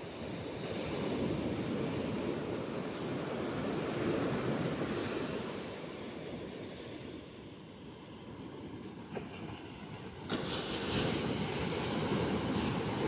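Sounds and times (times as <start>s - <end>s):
ocean surf washing onto beach: 0.0s - 7.0s, 9.0s - 13.0s
wind on microphone: 0.0s - 13.0s.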